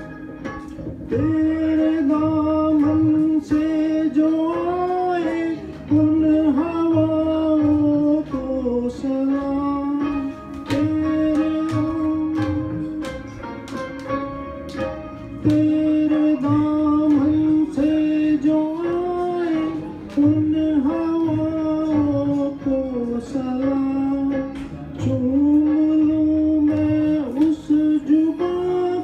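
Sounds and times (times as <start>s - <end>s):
backing music with plucked strings: 0.0s - 29.0s
man singing into a microphone: 1.1s - 13.5s, 15.2s - 29.0s.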